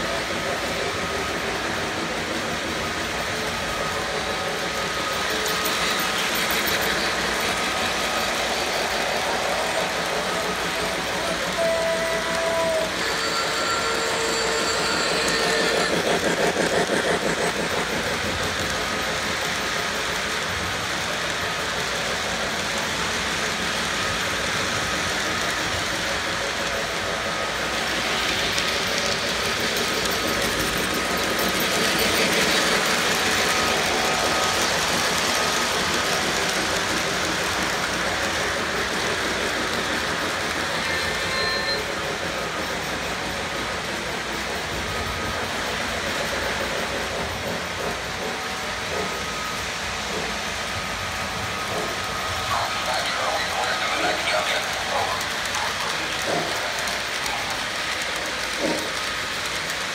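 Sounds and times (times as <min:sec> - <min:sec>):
model train wheels and motors rumbling: 0:00.0 - 0:59.9.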